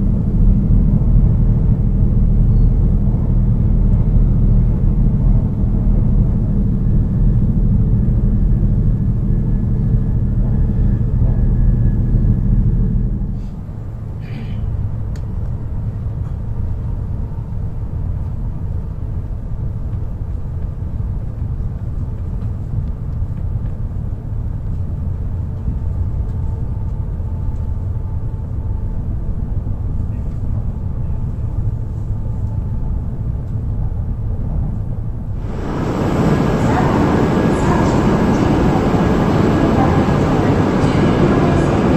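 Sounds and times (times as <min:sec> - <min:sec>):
train running at speed: 0:00.0 - 0:41.9.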